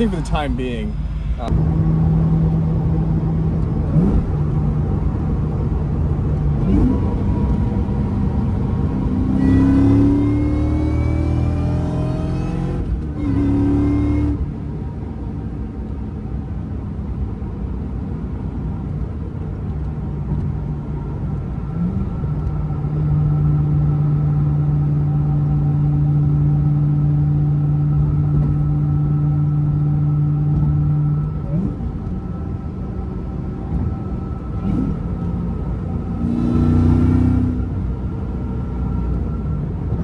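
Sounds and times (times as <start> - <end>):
car engine accelerating: 0.0 - 15.2, 18.7 - 40.0
supercharger whine: 0.0 - 40.0.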